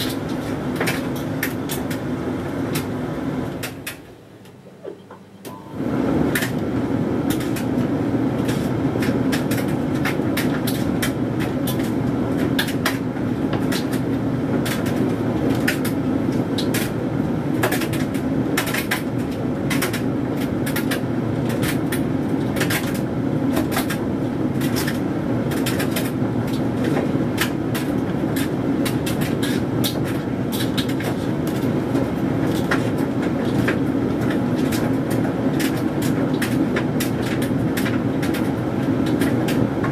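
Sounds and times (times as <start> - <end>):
tumble dryer motor and drum hum: 0.0 - 39.9.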